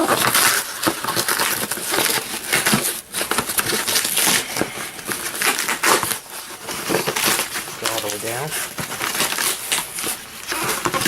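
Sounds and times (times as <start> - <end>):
cardboard box tearing and crumpling: 0.0 - 11.0.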